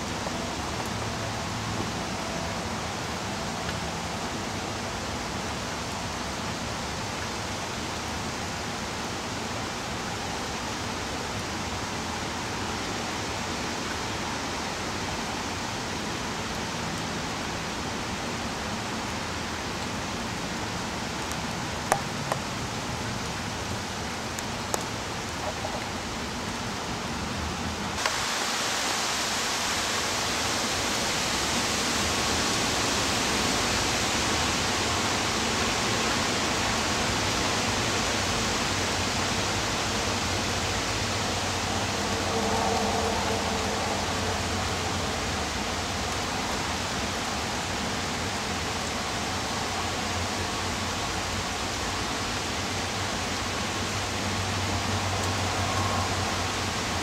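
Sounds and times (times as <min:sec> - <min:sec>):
heavy rain and wind hiss: 0:00.0 - 0:57.0.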